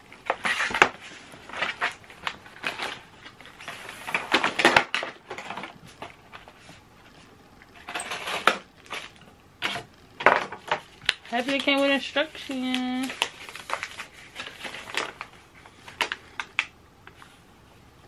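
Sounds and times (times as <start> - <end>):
plastic wrapping crinkling: 0.0 - 17.3.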